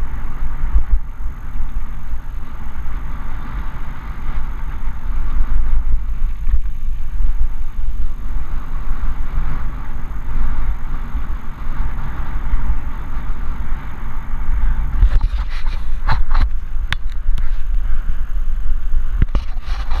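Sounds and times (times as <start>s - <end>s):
wind and trail vibration rumble: 0.0s - 20.0s.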